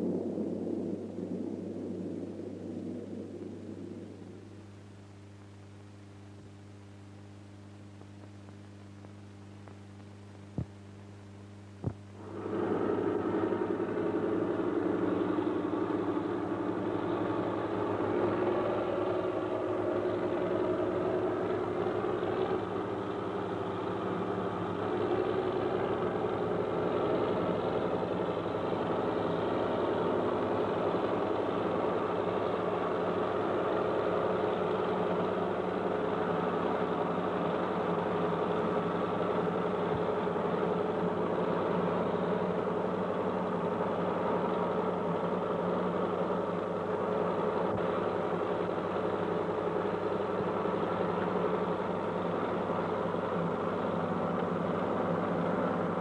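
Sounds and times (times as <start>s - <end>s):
bulldozer engine droning: 0.0s - 6.0s, 11.8s - 56.0s.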